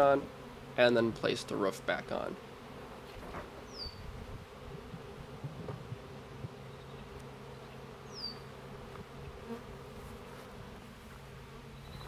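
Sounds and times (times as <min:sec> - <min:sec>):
bees buzzing in a swarm: 0:00.0 - 0:12.0.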